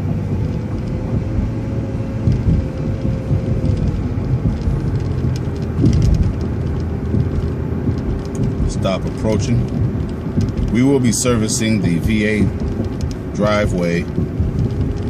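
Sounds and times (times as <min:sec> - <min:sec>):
bus engine and road rumble: 0:00.0 - 0:15.0
engine whine: 0:00.0 - 0:15.0.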